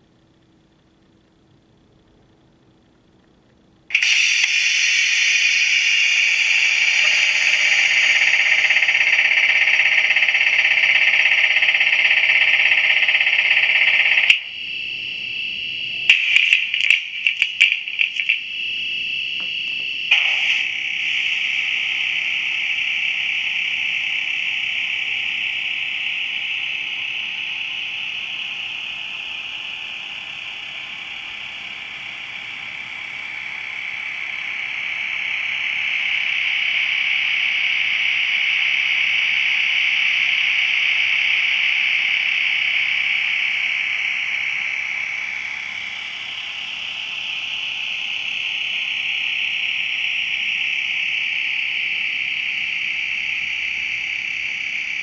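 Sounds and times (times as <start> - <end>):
high-pitched buzzing hum: 3.7 - 55.0.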